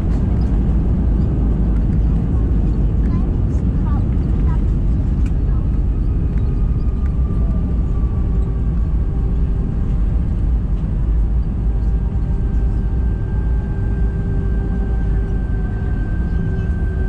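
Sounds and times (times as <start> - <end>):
aircraft engines and undercarriage rumble: 0.0 - 17.0.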